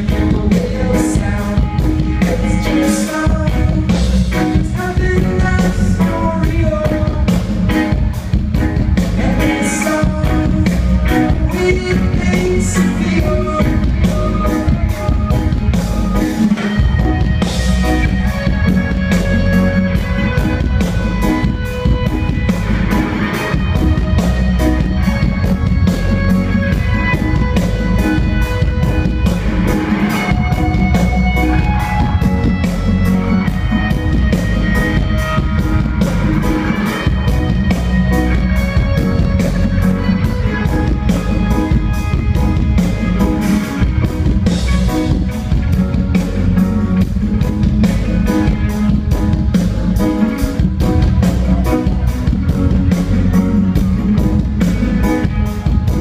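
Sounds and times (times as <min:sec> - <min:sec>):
reggae band playing: 0:00.0 - 0:56.0.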